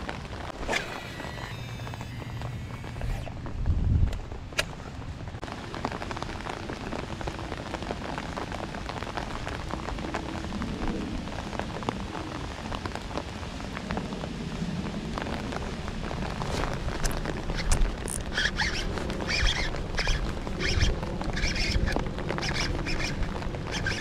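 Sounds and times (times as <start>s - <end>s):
rain falling on a lake: 0.0s - 24.0s.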